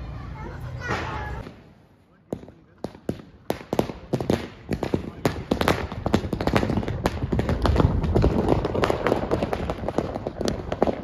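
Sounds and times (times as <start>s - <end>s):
firecrackers exploding: 0.8s - 11.0s.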